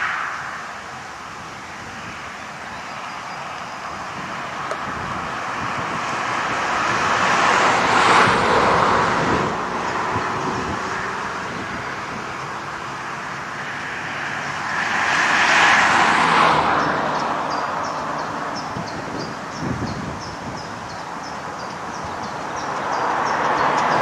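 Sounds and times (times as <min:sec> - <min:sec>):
vehicles passing by: 0:00.0 - 0:24.0.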